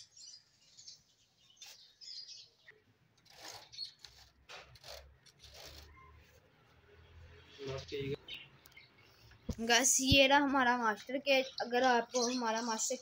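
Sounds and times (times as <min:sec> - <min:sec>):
small birds chirping: 0:00.0 - 0:04.4, 0:05.2 - 0:13.0.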